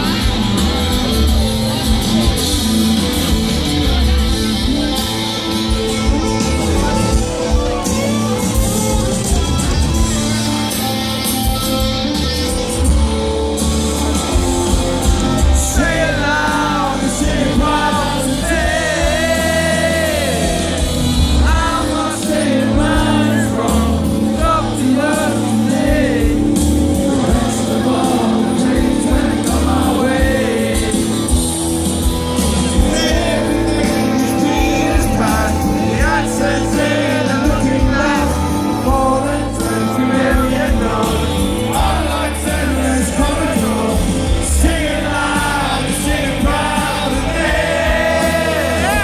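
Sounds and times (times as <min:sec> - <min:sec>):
live rock band playing: 0:00.0 - 0:49.0.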